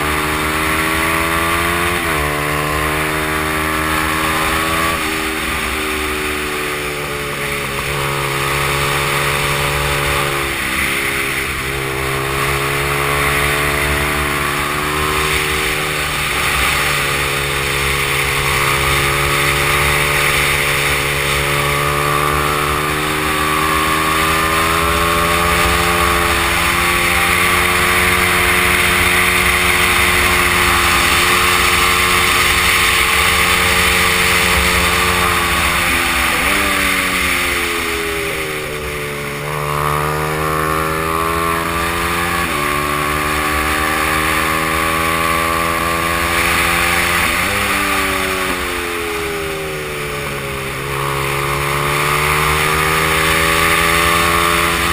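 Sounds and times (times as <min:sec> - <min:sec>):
motorbike engine running hard: 0:00.0 - 0:54.9.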